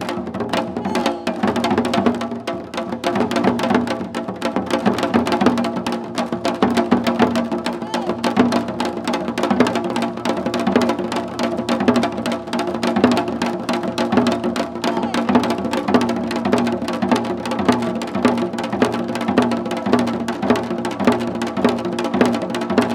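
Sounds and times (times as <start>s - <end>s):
hourglass drums struck fast: 0.0s - 22.9s.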